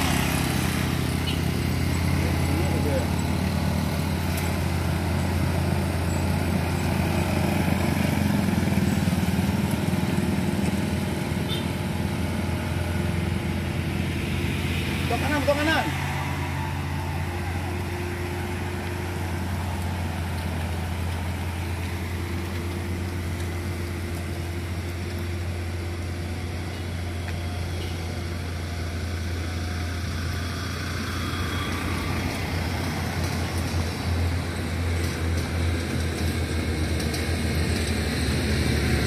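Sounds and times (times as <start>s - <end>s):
cars passing: 0.0s - 39.0s
vehicle engine running: 0.0s - 39.0s.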